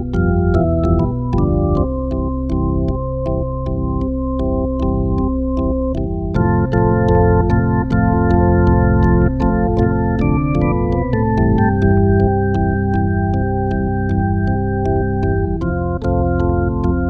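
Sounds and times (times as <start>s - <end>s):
light ticking beat: 0.0s - 17.0s
slow organ chords: 0.0s - 17.0s.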